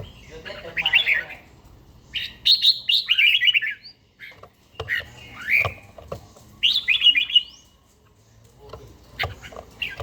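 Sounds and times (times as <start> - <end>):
bulbul singing: 0.0 - 10.0.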